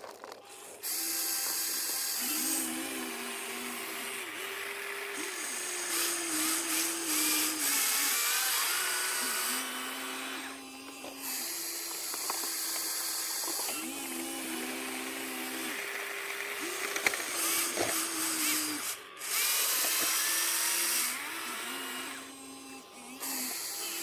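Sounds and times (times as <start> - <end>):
small electric motors whining: 0.0 - 24.0.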